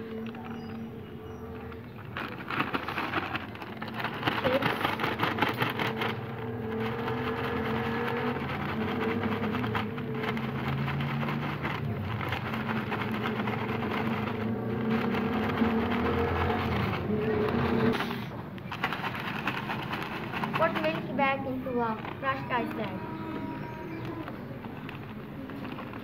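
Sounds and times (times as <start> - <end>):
plastic bag of ice rustling: 0.0 - 26.0.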